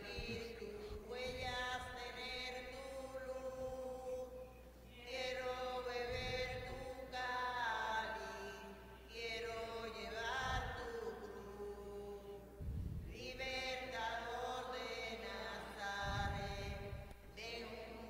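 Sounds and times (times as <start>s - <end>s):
hymn sung slowly: 0.0s - 18.0s.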